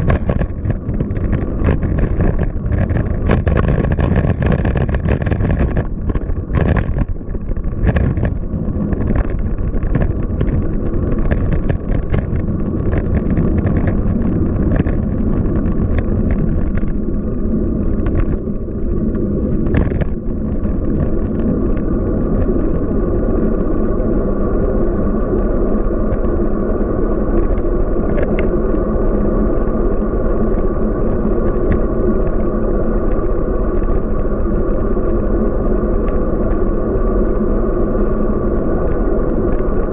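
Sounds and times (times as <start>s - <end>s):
bicycle tyre noise: 0.0s - 39.9s
wind on microphone: 0.0s - 39.9s.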